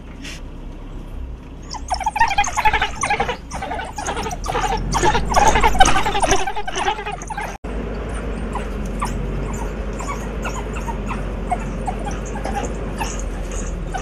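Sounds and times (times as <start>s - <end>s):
vehicle engine running: 0.0s - 14.0s
wild dogs yipping: 1.6s - 14.0s.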